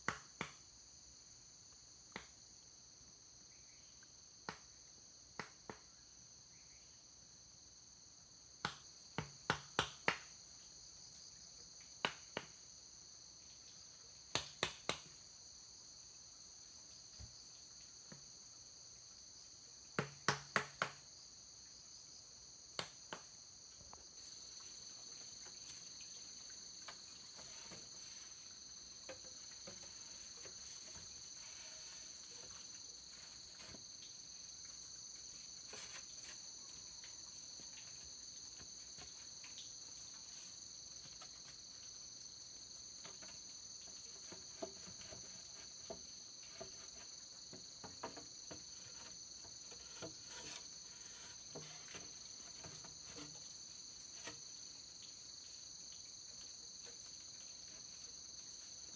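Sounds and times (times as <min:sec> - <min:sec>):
insects chorus: 0:00.0 - 0:58.9.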